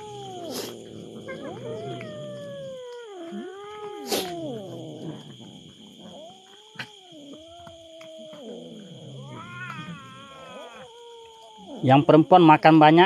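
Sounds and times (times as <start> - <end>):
cats meowing: 0.0 - 12.3.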